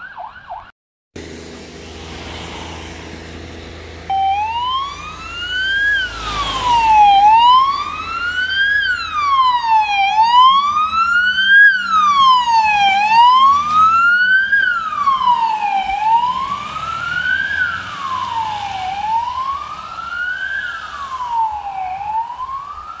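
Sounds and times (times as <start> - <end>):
electronic wail siren: 0.0 - 0.7, 4.0 - 23.0
road noise rush: 0.0 - 23.0.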